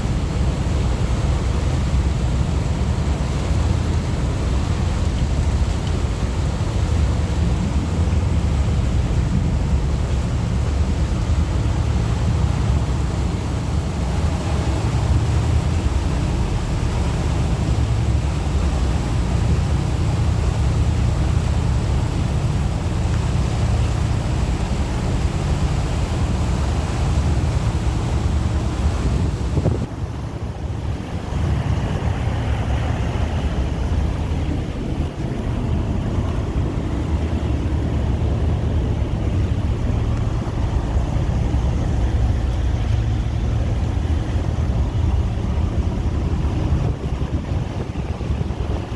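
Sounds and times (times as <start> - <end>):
motorboat engine rumble: 0.0 - 48.9
water rushing past: 0.0 - 48.9
wind buffeting microphone: 0.0 - 48.9.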